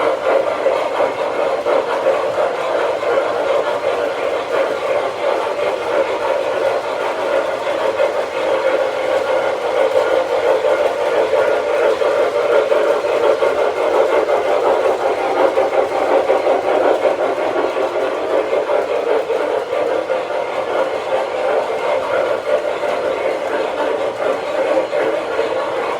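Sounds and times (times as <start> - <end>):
model train wheels rumbling: 0.0 - 25.9.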